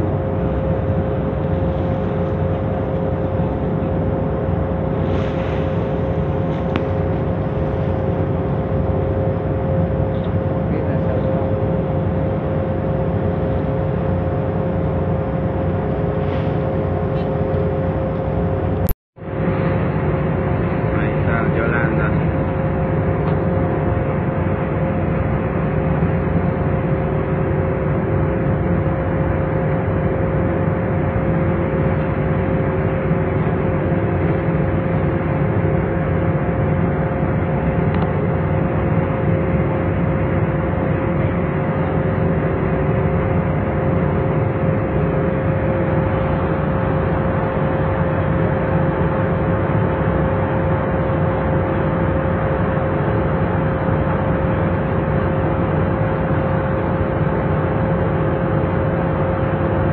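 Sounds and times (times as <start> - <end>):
ship engine droning: 0.0 - 59.9.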